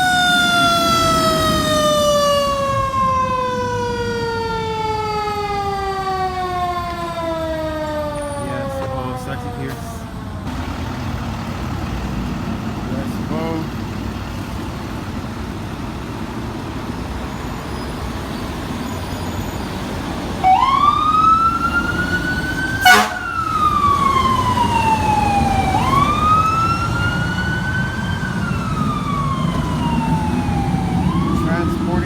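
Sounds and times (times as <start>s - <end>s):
engine and road noise: 0.0s - 32.0s
fire engine siren wailing: 0.0s - 32.0s.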